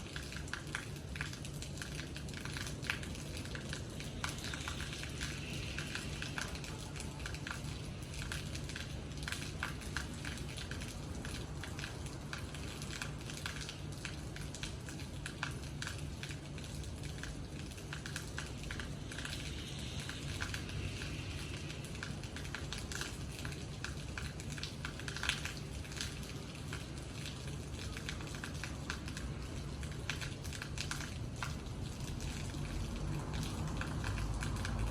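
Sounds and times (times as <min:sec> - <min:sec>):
rain drops pattering on hard surface: 0:00.0 - 0:34.9.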